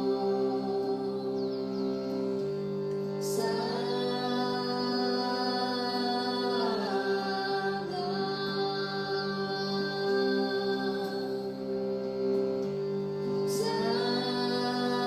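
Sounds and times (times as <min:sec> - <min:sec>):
sustained drone: 0:00.0 - 0:15.0
voice chanting long notes: 0:00.0 - 0:15.0.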